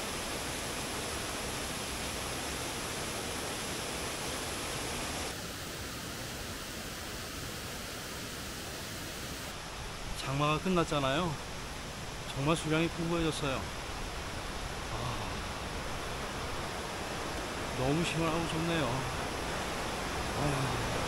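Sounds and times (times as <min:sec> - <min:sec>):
stream rushing down waterfall: 0:00.0 - 0:21.0.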